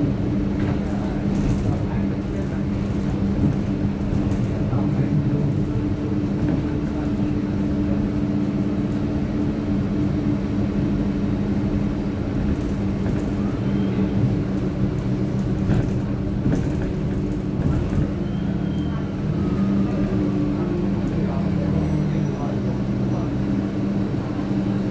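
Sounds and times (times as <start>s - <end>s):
bus engine humming: 0.0s - 24.9s
road and cabin noise: 0.0s - 24.9s.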